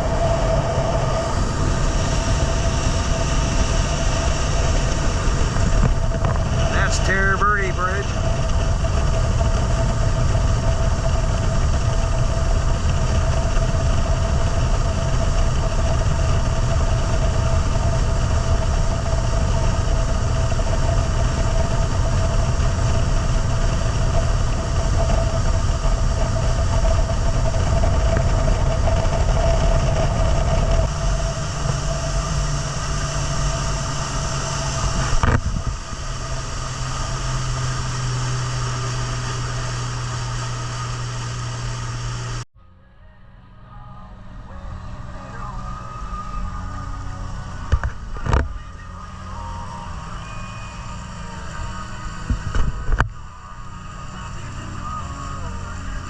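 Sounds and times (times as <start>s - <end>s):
boat engine running: 0.0s - 42.5s, 43.6s - 56.0s.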